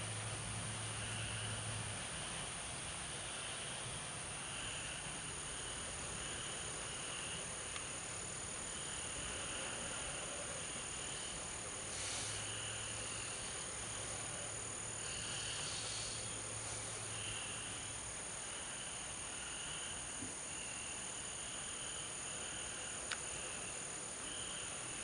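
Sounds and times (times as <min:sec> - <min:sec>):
frogs calling: 0:04.3 - 0:25.0.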